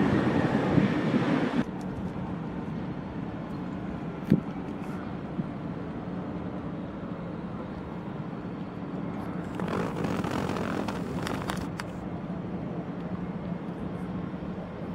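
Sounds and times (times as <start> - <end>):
aircraft engine hum: 0.0 - 14.9.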